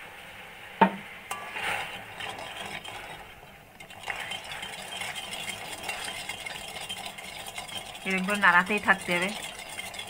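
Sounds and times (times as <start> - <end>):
utensil scraping a metal pan: 1.3 - 10.0.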